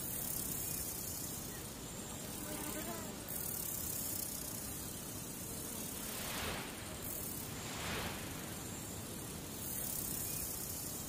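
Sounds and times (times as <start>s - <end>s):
broadcast feed hiss: 0.0s - 11.0s.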